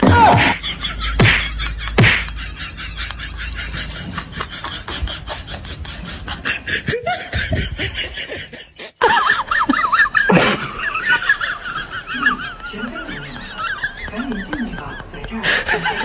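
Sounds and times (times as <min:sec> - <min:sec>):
laughter: 0:00.2 - 0:16.0.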